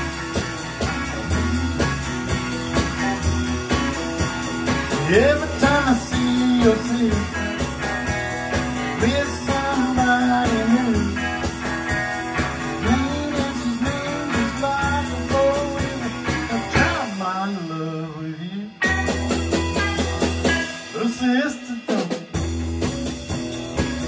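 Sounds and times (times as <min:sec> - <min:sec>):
drum kit with cymbals: 0:00.0 - 0:24.0
electric and acoustic guitars: 0:00.0 - 0:24.0
electric bass: 0:00.0 - 0:24.0.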